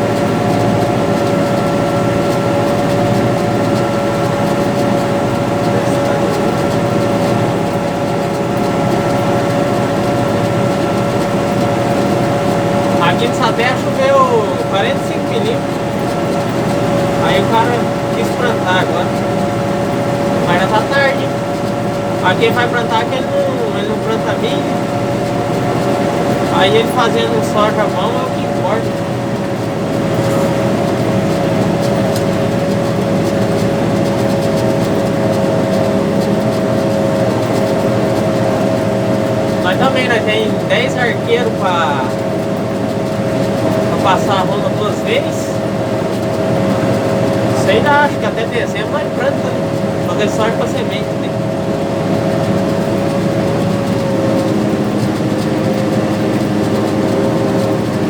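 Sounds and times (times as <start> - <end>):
high whine: 0.0 - 58.0
tractor diesel engine under load: 0.0 - 58.0.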